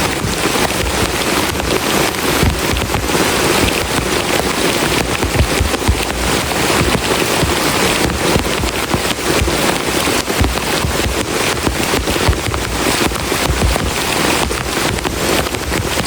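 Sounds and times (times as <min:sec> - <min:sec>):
heavy rain on a shelter: 0:00.0 - 0:16.0.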